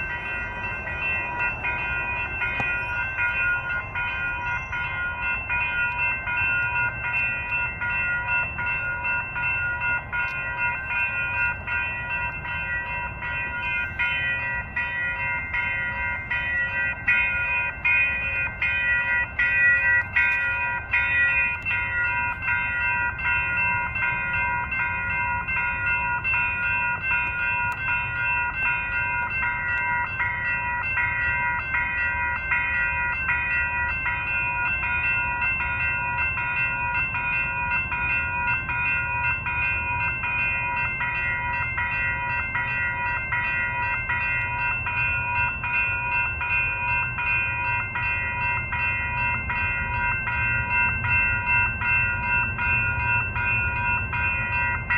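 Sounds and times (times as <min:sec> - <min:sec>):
crossing warning bell ringing: 0:00.0 - 0:54.9
low train rumble: 0:00.0 - 0:54.9.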